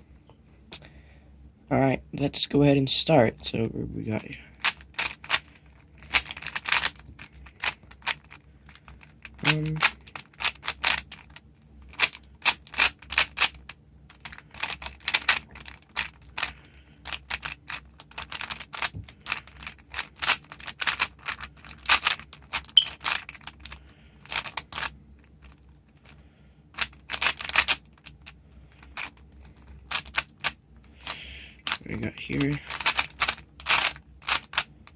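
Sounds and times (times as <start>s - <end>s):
puzzle cube plastic clicks: 4.6s - 26.2s, 26.8s - 34.9s.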